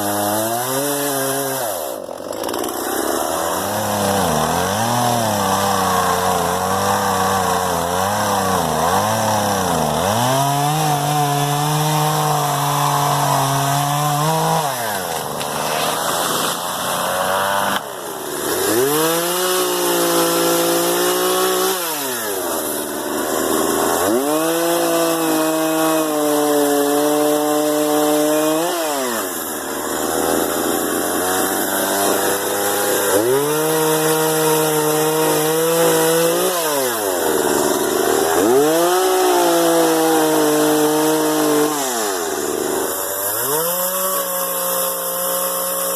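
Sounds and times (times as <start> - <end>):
chainsaw cutting a tree trunk: 0.0 - 45.9.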